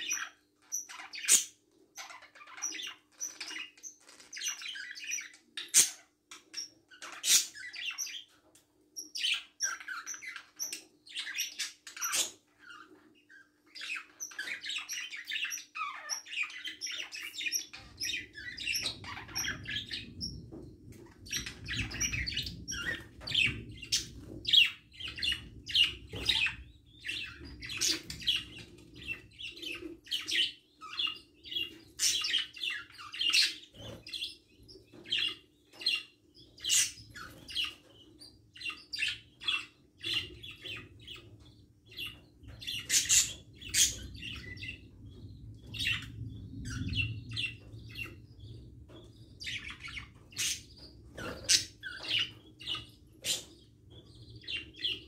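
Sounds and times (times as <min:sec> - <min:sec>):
budgerigars chirping and chattering: 0:00.0 - 0:55.0.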